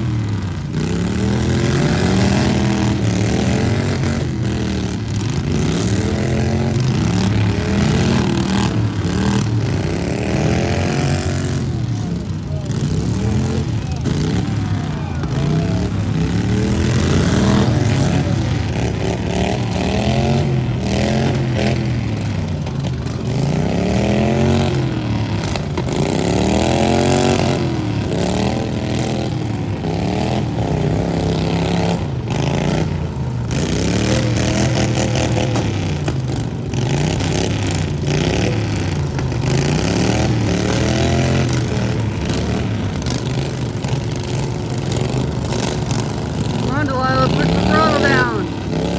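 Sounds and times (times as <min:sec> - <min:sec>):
lawn mower engines revving: 0:00.0 - 0:48.9.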